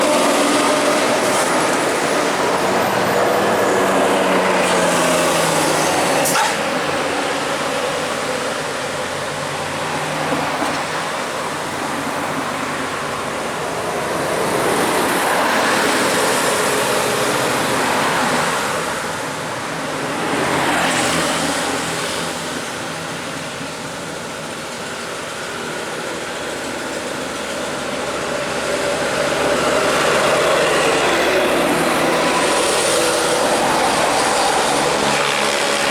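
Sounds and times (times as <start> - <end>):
heavy vehicles passing: 0.0 - 35.9.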